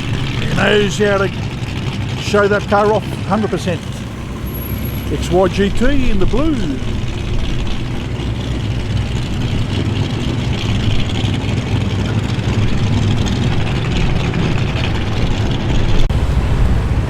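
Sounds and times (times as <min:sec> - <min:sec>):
car engine rolling past: 0:00.0 - 0:17.0.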